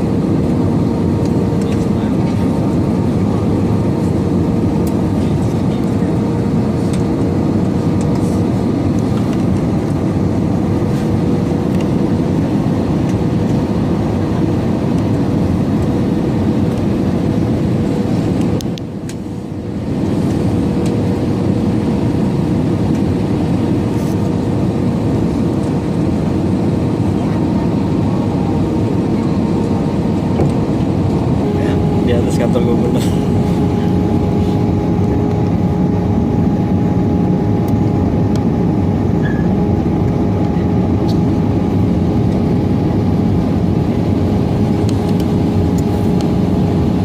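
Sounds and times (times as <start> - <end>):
engine and airflow roar: 0.0 - 47.0.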